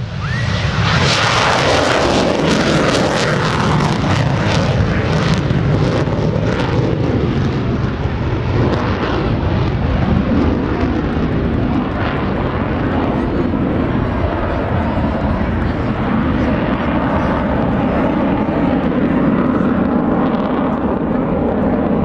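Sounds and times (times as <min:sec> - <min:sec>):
jet engine roar with crackle: 0:00.0 - 0:22.0.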